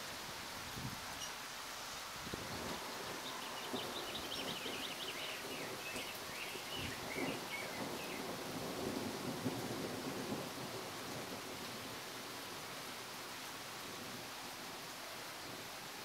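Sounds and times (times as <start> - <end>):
rustling leaves: 0.0 - 16.0
wind: 0.0 - 16.0.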